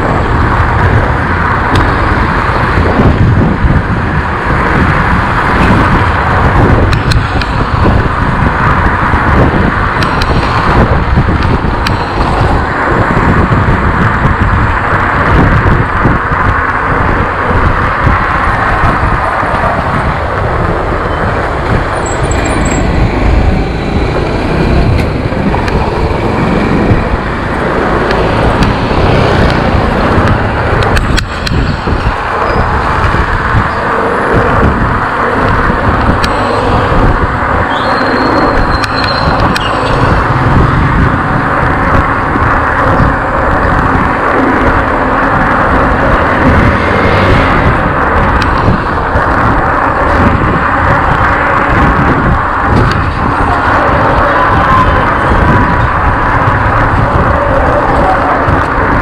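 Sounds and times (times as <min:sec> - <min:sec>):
rushing wind and road noise: 0:00.0 - 0:59.0
wind buffeting microphone: 0:00.0 - 0:59.0.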